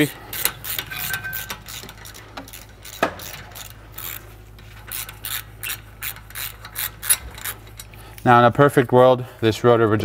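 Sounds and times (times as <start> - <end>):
hand ratchet clicking: 0.0 - 8.3.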